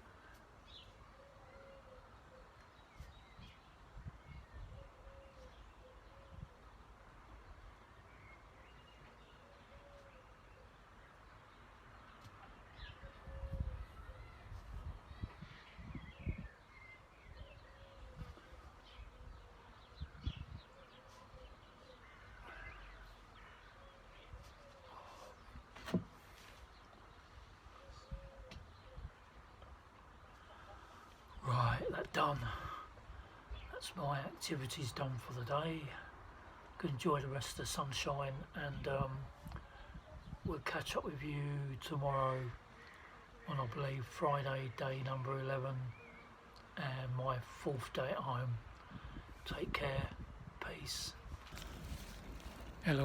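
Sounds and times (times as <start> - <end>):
faint bird calls: 0.0 - 36.8, 41.8 - 53.0.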